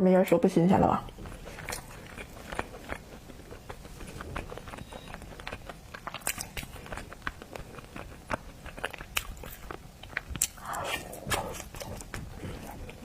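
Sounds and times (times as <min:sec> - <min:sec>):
chewing and crunching seafood: 0:00.7 - 0:13.0.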